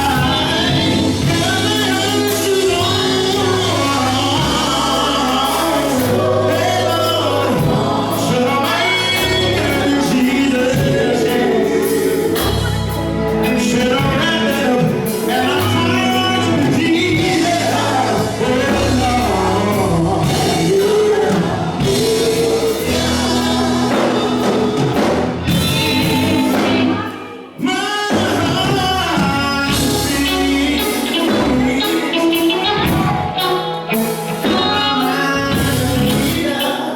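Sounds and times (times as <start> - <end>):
band with low bass line: 0.0 - 36.9
group of voices singing: 0.0 - 36.9.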